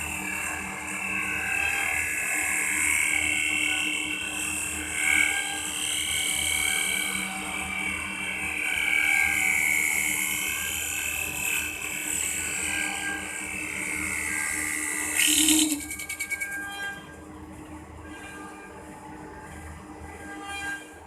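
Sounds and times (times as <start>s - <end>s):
wood lathe mechanical whine: 0.0s - 21.0s.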